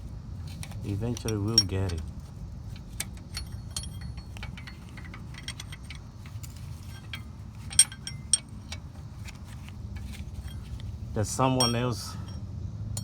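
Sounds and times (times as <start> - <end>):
wrench clinking on metal: 0.5 - 13.0.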